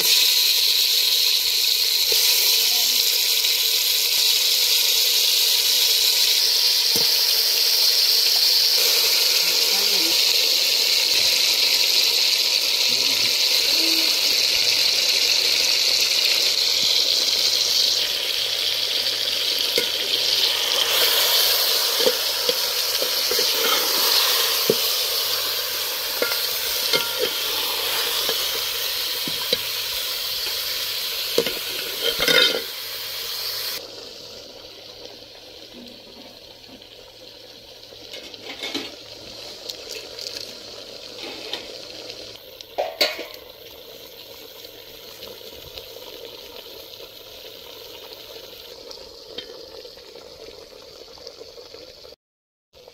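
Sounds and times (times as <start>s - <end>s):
meat sizzling in hot oil: 0.0s - 52.2s.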